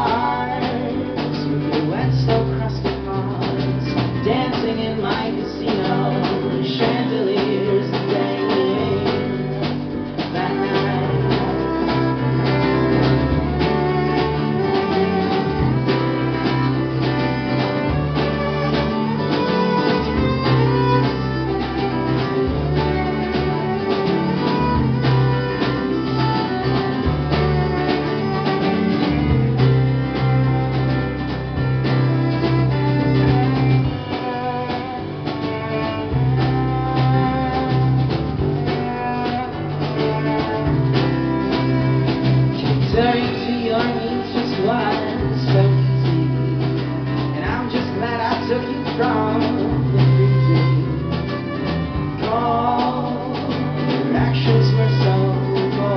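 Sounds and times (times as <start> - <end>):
electric bass: 0.0 - 55.9
fiddle: 0.0 - 55.9
steady drum beat: 0.0 - 55.9
strummed acoustic guitar: 0.0 - 55.9.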